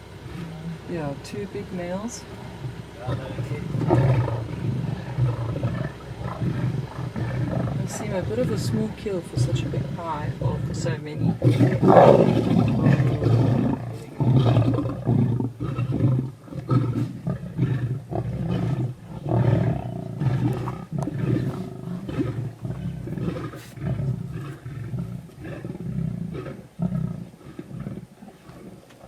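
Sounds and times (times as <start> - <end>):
lion roaring: 0.0 - 29.0.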